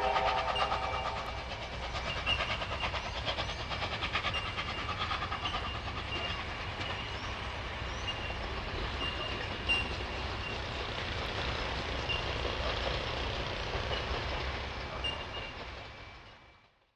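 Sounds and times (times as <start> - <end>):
train rumbling past: 0.0 - 16.9.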